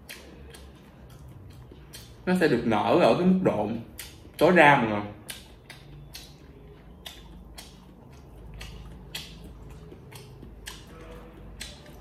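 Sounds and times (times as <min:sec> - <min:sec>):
wet squishes of noodles: 0:00.0 - 0:02.3, 0:03.8 - 0:12.0.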